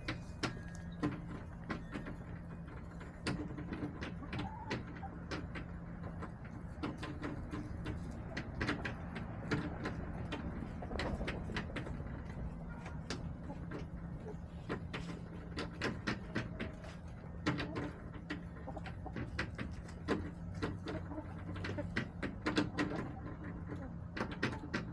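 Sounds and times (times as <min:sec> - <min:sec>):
hens clucking softly: 0:00.0 - 0:24.9
hens pecking on plastic: 0:00.0 - 0:24.9.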